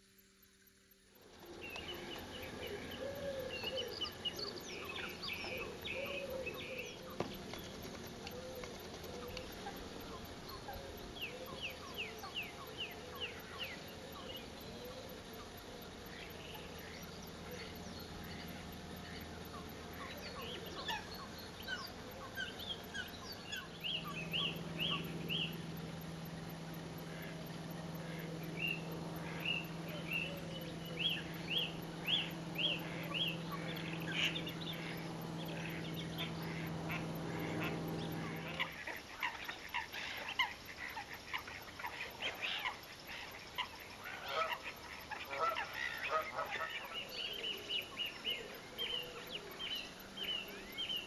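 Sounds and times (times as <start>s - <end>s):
steady low hum: 0.0s - 51.0s
birds calling sharp notes: 1.2s - 51.0s.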